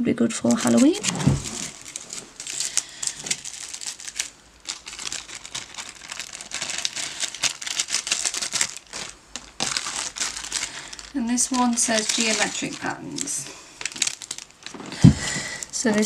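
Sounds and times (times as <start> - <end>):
plastic sleeves crinkling: 0.4 - 16.0.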